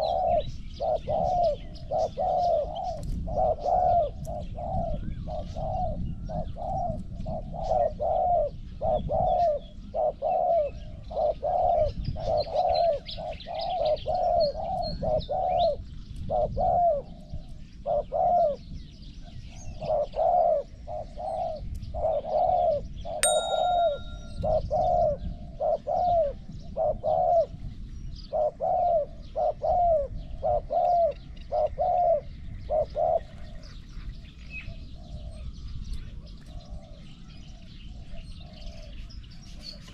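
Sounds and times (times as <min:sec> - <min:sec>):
dove cooing: 0:00.0 - 0:18.8, 0:19.5 - 0:27.6, 0:28.2 - 0:33.9, 0:34.7 - 0:39.9.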